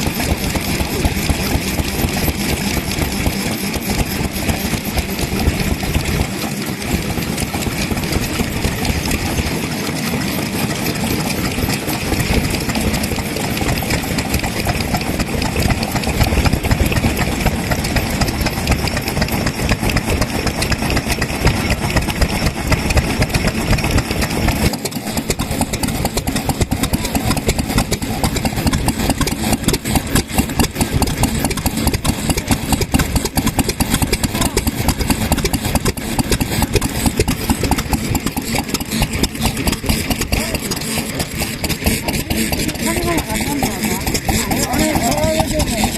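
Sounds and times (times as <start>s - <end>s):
stationary engines pulsing: 0.0s - 45.9s.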